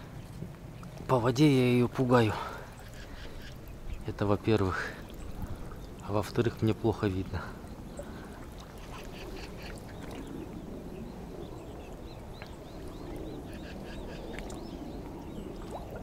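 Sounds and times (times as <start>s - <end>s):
water sloshing around legs: 2.4s - 16.0s.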